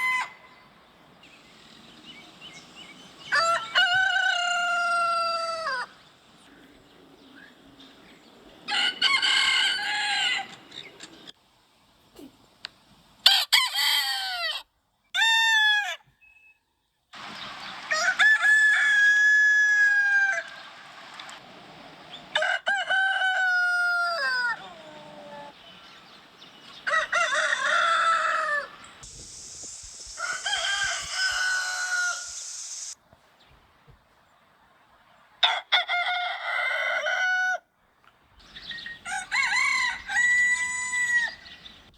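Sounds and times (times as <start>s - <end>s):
roosters crowing: 0.0s - 0.8s, 1.6s - 11.3s, 13.2s - 16.1s, 17.2s - 29.2s, 29.9s - 33.0s, 35.4s - 37.7s, 38.8s - 41.9s.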